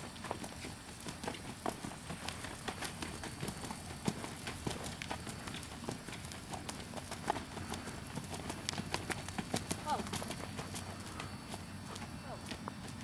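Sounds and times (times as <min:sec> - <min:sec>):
horse hoofbeats clip-clopping: 0:00.0 - 0:13.0.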